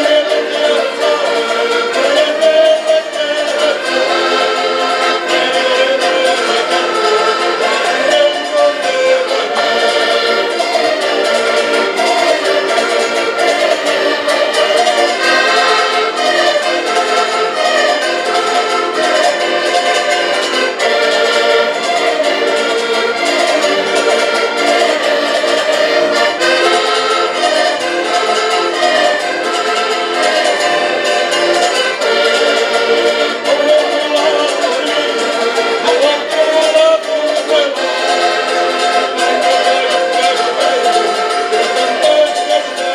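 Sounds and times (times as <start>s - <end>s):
button accordions playing folk music: 0.0s - 42.9s
strummed string instrument: 0.0s - 42.9s.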